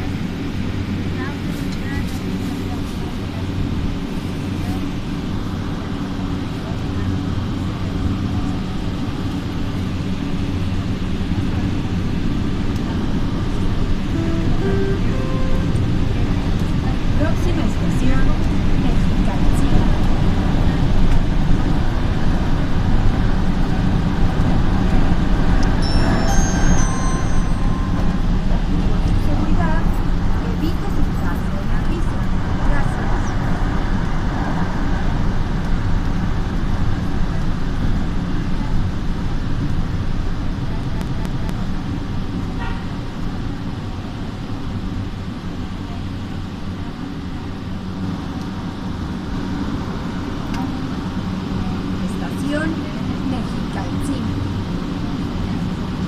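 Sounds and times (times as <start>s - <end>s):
train rumbling and rolling: 0.0s - 56.0s.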